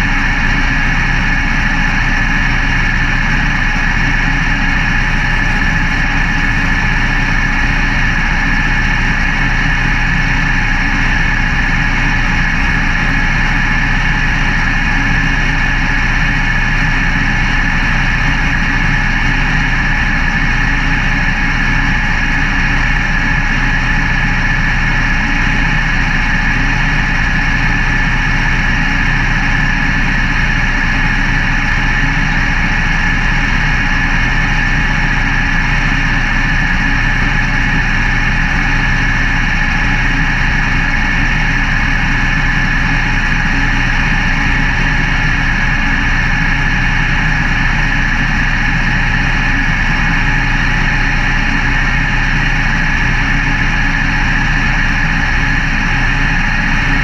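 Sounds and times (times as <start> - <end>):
race car engine idling: 0.0 - 57.0.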